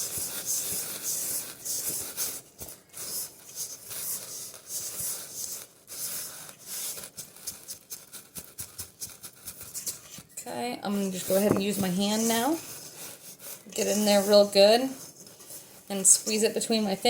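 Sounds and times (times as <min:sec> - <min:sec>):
utensil scraping dough in bowl: 0:00.0 - 0:17.0.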